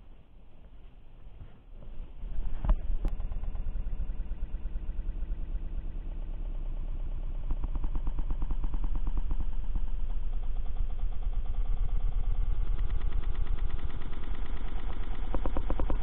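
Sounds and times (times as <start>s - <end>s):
outboard motor running: 2.8s - 16.0s
dense rapid rattle: 2.9s - 16.0s.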